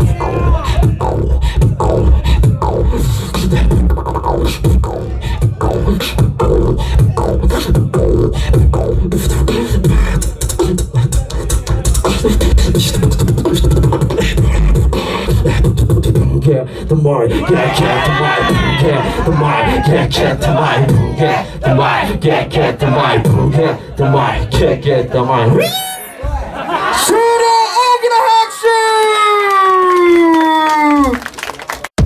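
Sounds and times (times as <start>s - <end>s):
person beatboxing through speakers: 0.0s - 26.1s.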